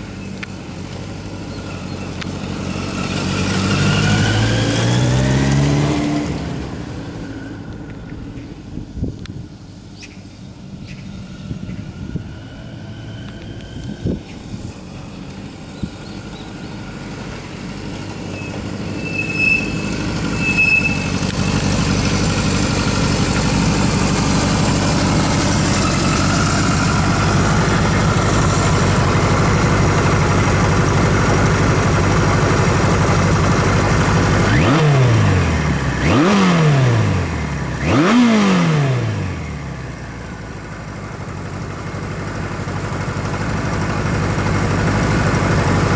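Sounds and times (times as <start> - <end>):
motorcycle engine running and revving: 0.0 - 45.9.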